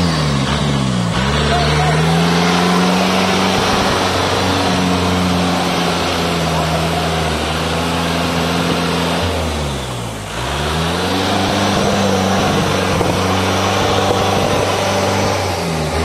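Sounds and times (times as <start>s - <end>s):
engine revving high: 0.0s - 16.0s.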